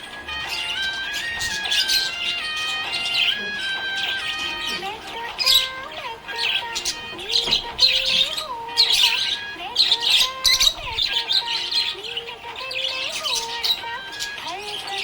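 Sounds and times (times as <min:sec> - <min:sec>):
budgerigar chirping: 0:00.0 - 0:15.0.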